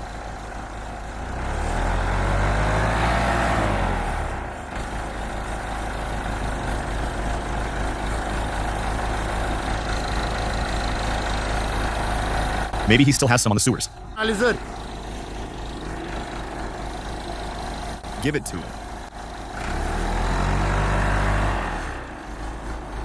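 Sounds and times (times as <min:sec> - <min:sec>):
backhoe engine running: 0:00.0 - 0:23.0.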